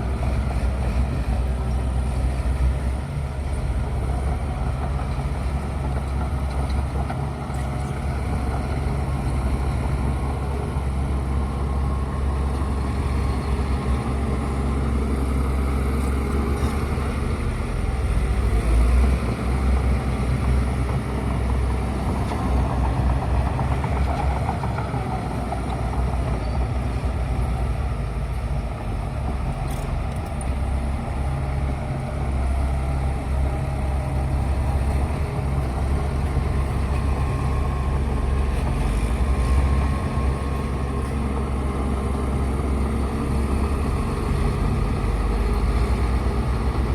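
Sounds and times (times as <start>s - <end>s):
bulldozer diesel engine droning: 0.0s - 46.9s.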